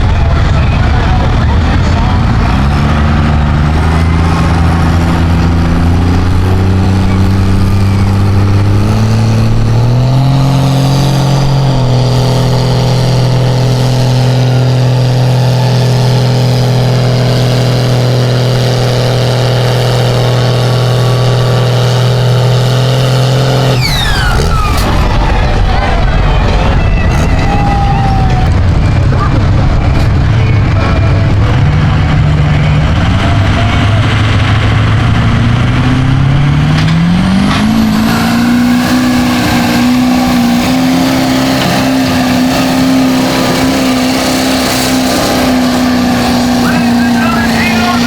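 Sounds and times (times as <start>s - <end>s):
truck engine at full throttle: 0.0s - 48.0s.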